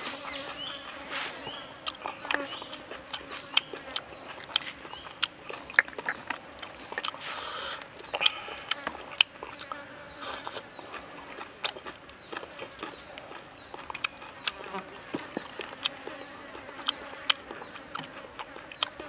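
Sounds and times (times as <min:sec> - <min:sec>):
insects buzzing: 0:00.0 - 0:19.0
person chewing: 0:00.0 - 0:19.0.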